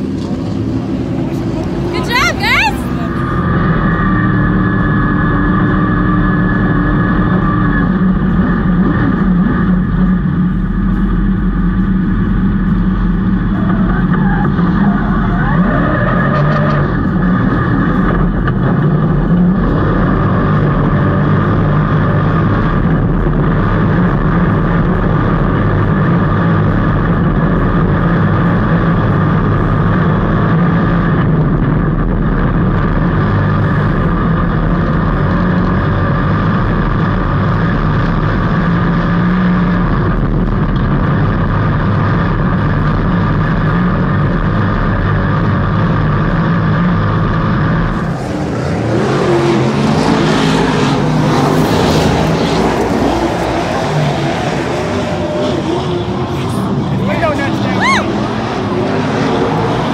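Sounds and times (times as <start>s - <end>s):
race car engine droning: 0.0s - 59.9s.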